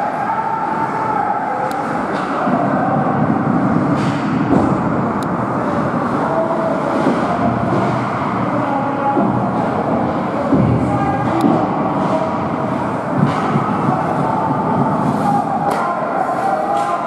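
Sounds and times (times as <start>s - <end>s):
arena rumble: 0.2s - 16.8s.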